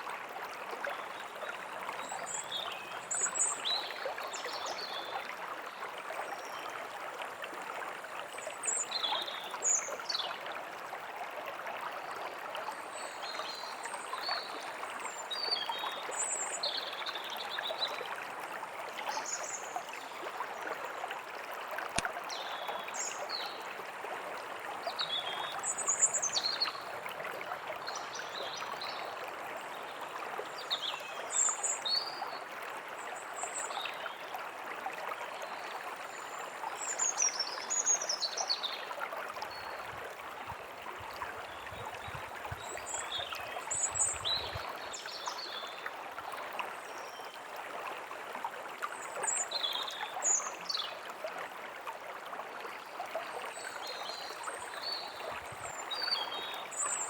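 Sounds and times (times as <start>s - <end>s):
stream running: 0.0s - 57.0s.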